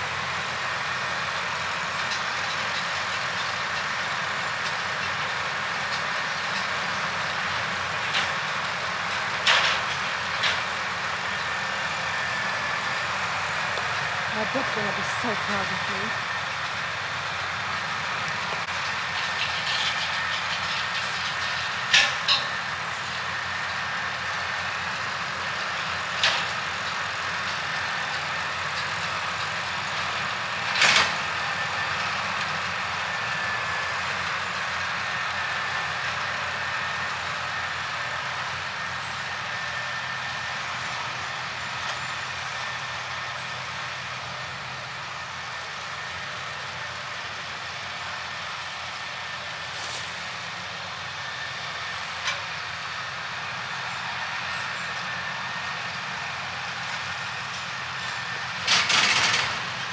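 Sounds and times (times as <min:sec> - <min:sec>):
mower engine running: 0:00.0 - 0:31.6, 0:35.6 - 0:59.9.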